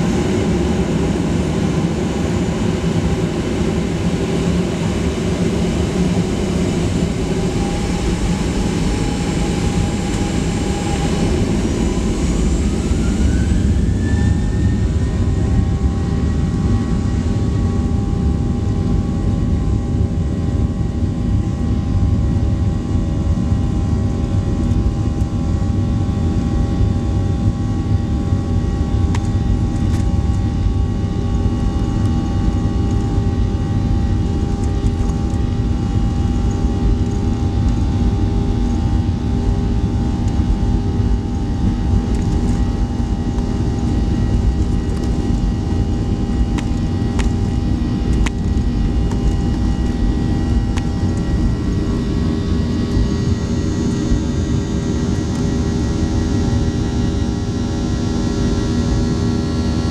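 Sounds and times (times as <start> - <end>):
jet engine whine: 0.0 - 59.9
rumble of wheels on runway: 0.0 - 59.9.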